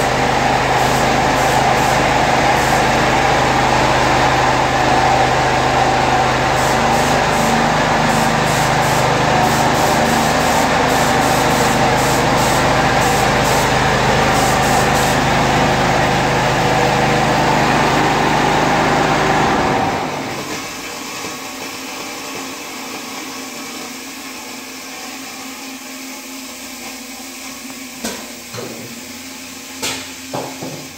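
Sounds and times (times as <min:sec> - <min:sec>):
air compressor running: 0:00.0 - 0:30.9.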